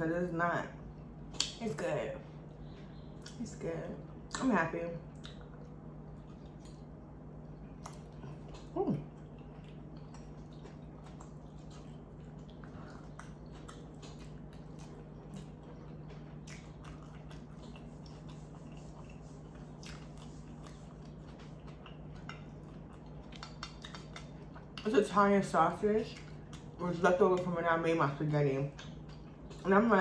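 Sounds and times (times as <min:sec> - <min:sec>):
steady low hum: 0:00.0 - 0:30.0
wet mouth chewing: 0:02.4 - 0:03.4, 0:05.1 - 0:25.1, 0:26.0 - 0:27.6, 0:28.6 - 0:30.0.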